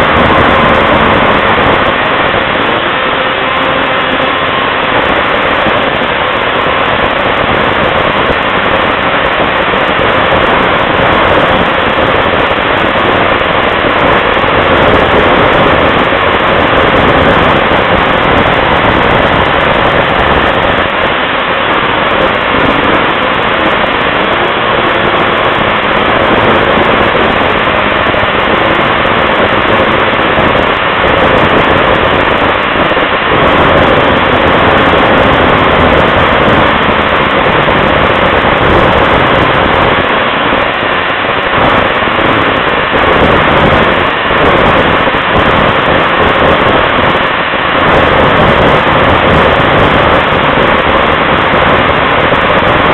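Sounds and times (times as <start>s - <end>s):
snowmobile engine and track noise: 0.0s - 52.9s.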